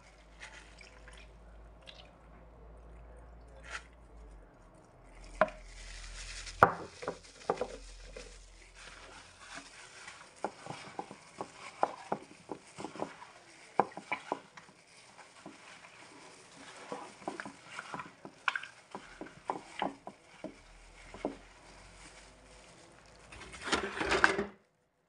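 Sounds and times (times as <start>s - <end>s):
wet squelches of raw chicken: 0.0s - 6.6s, 7.3s - 23.6s.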